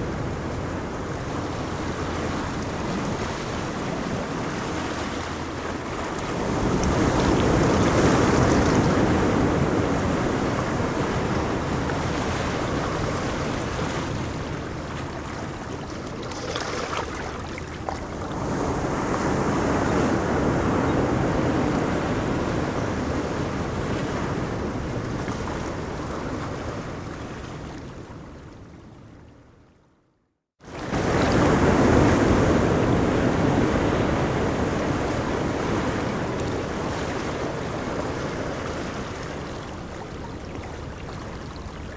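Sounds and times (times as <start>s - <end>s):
ocean surf breaking on beach: 0.0s - 28.1s, 30.6s - 41.9s.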